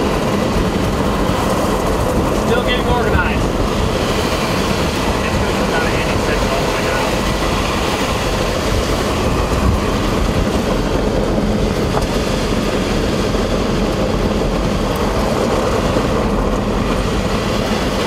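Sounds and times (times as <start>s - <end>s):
road and wind noise in car cabin: 0.0s - 18.0s.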